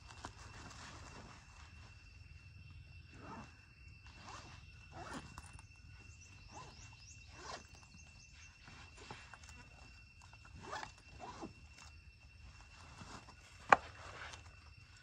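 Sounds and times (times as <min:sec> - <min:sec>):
high insect whine: 0:00.0 - 0:15.0.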